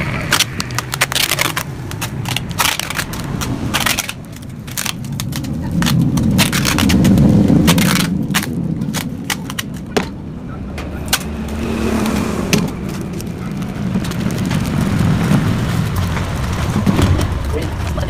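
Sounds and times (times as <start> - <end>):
exhaust crackling pops: 0.0 - 18.0
two-stroke motorcycle engine rumbling: 0.0 - 18.0.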